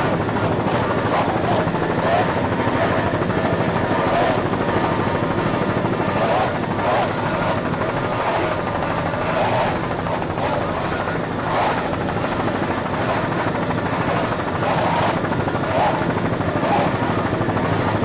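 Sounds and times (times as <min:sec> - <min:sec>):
helicopter rotor pulsing overhead: 0:00.0 - 0:18.0.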